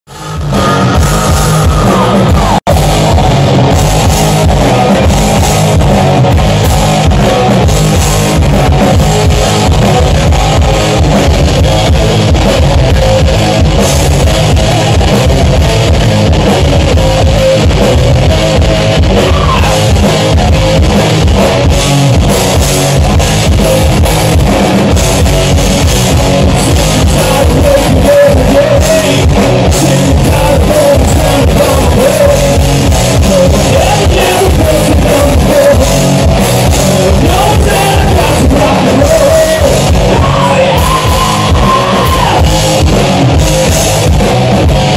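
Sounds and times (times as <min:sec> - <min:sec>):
drum kit: 0:00.1 - 0:44.9
electric guitars: 0:00.1 - 0:44.9.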